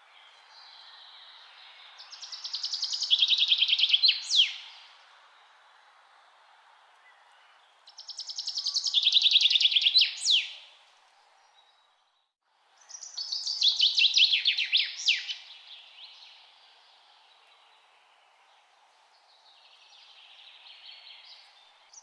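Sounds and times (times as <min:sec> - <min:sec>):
faint steady hiss: 0:00.0 - 0:22.0
songbird singing: 0:00.0 - 0:22.0.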